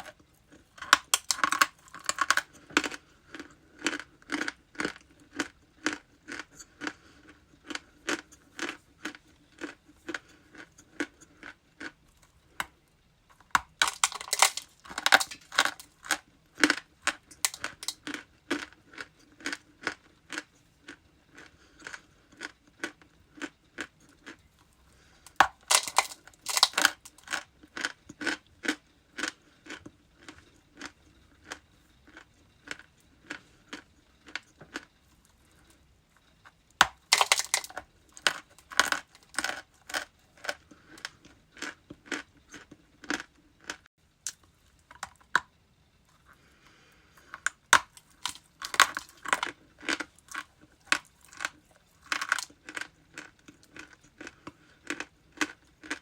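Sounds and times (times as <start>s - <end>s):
ice crunching while chewed: 0.0s - 45.5s, 46.1s - 56.0s.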